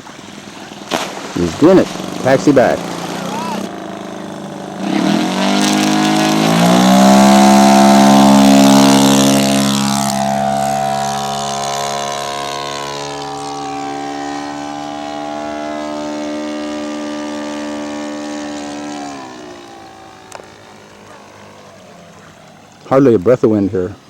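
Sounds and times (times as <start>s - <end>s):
model plane engine throttling up: 0.0s - 24.0s.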